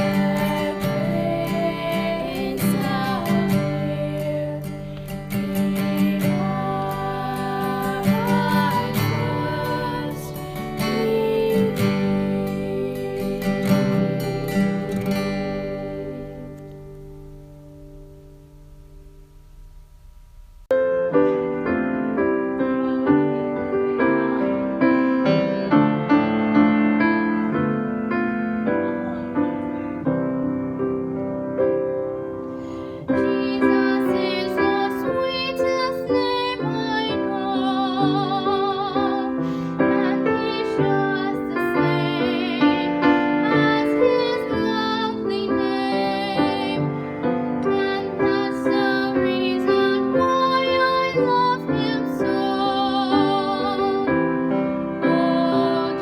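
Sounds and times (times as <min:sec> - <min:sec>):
woman singing a hymn: 0:00.0 - 0:16.7, 0:22.2 - 0:27.6, 0:32.6 - 0:56.0
piano accompaniment: 0:00.0 - 0:19.4, 0:20.6 - 0:56.0.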